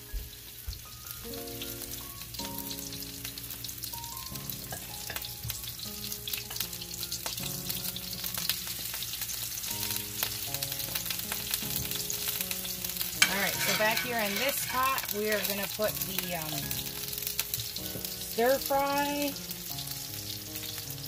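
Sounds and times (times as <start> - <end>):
fritters sizzling in hot oil: 0.0 - 21.0
soft background music chords: 0.0 - 21.0.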